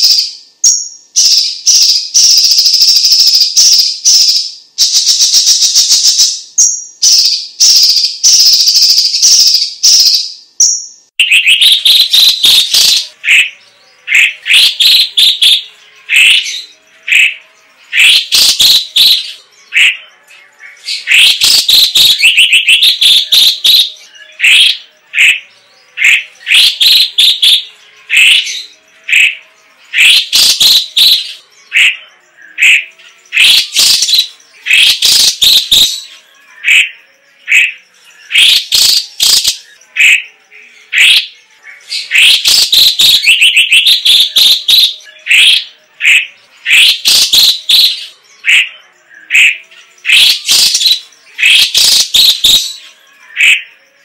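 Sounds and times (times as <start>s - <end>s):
buzzy hissing bird trill: 0.0s - 20.0s, 20.6s - 54.0s
caged bird singing: 0.0s - 54.0s.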